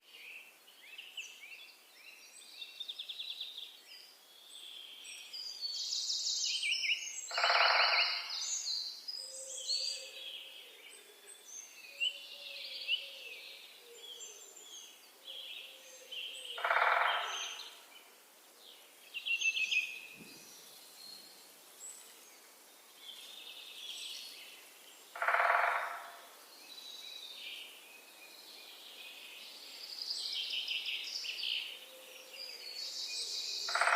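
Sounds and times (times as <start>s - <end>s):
birds chirping and trilling: 0.9s - 33.9s.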